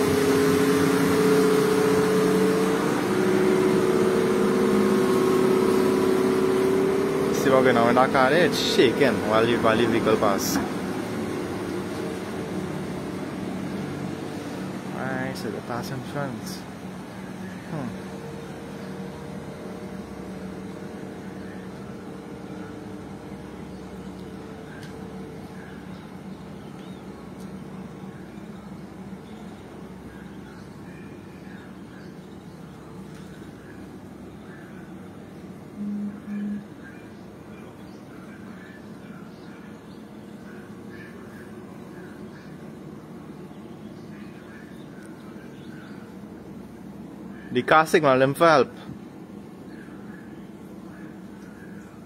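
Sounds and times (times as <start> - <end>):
car idling hum: 0.0 - 52.0
truck engine running: 0.0 - 52.0.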